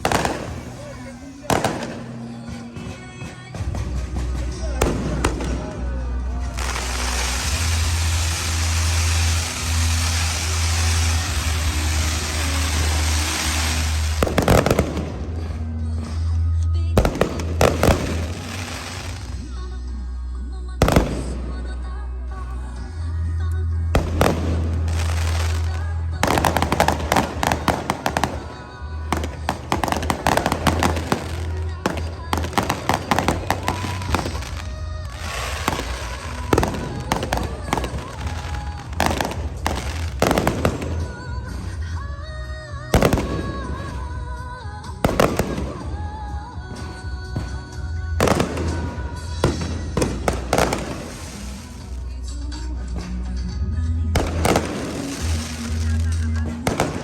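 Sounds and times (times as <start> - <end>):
fireworks crackling bursts: 0.0 - 19.9, 20.7 - 22.9, 24.0 - 57.0
music playing: 0.0 - 57.0.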